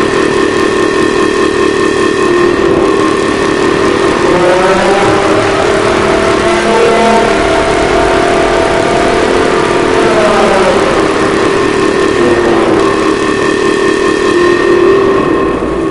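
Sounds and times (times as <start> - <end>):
emergency alert alarm tones: 0.0 - 15.9.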